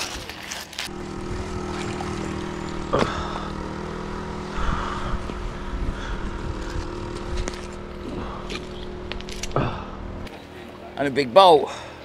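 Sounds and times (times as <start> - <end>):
steady low hum: 0.8 - 10.9.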